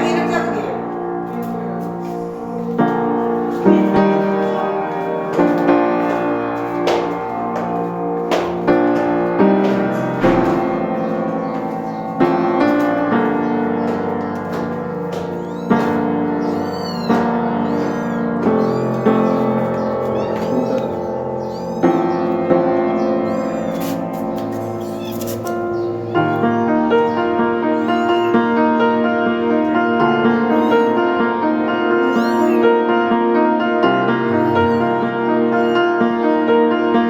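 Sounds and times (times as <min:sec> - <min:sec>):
slow piano music: 0:00.0 - 0:37.0.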